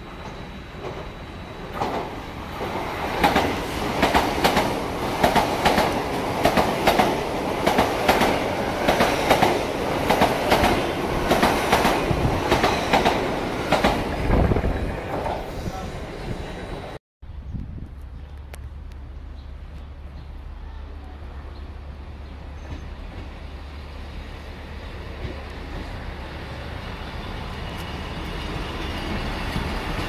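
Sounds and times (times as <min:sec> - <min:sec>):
train rushing noise: 0:00.0 - 0:17.0, 0:18.4 - 0:30.0.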